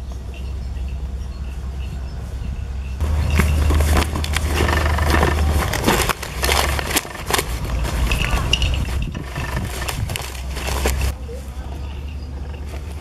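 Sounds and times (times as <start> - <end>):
banana leaves rustling and crackling: 0.0 - 13.0.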